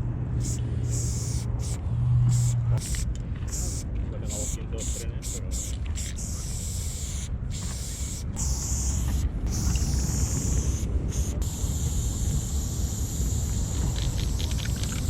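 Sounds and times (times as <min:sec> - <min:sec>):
steady low rumble: 0:00.0 - 0:15.0
spray paint can hissing: 0:00.4 - 0:15.0.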